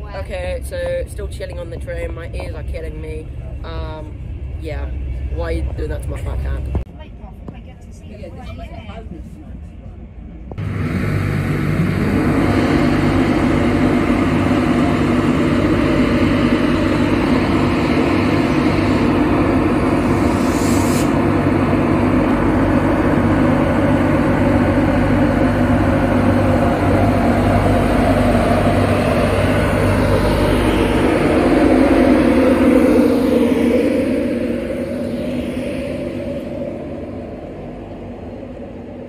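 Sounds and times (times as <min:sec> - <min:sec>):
electric locomotive humming: 0:00.0 - 0:39.0.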